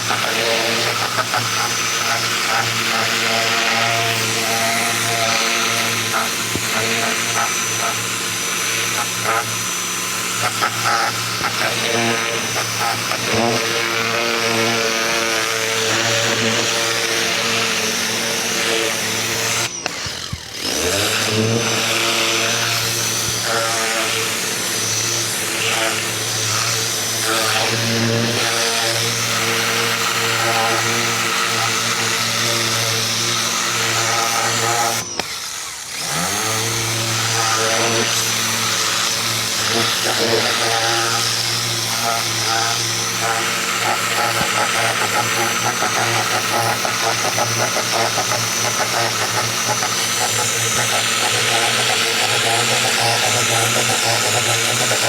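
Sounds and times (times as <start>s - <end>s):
pressure washer motor hum: 0.0s - 55.0s.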